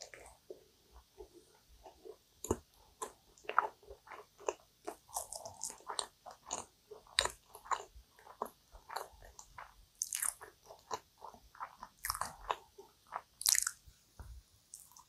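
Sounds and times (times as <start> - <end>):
crunchy pastry chewing: 0.0 - 13.8.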